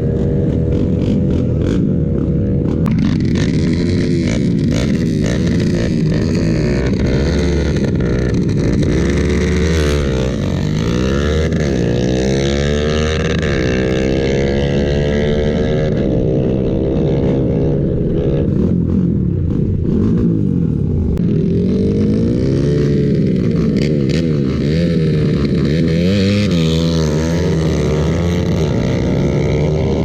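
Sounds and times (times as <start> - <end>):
engine revving: 0.0 - 30.0.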